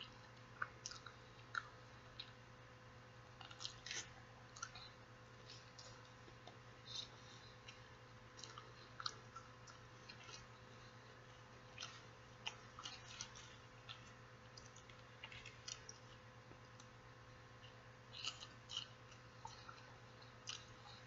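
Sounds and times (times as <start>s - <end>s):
wet chewing smacks and clicks: 0.0s - 2.4s, 3.3s - 21.0s
low steady hum: 0.0s - 21.0s.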